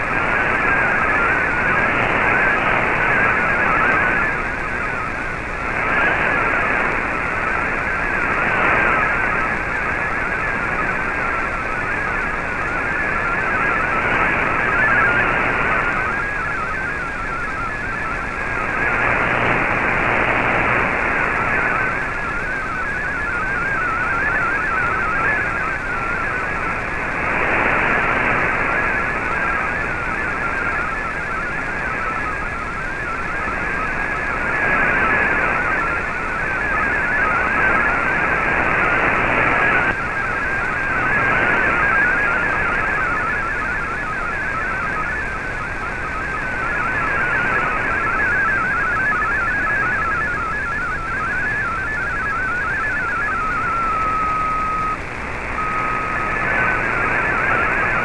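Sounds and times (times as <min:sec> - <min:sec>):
warble of stepping data tones: 0:00.0 - 0:58.0.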